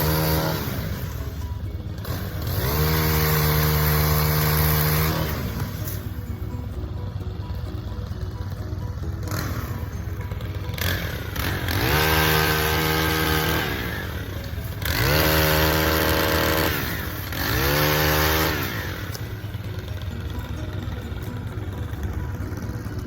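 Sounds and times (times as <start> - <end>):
small engine idling and revving: 0.0 - 23.0.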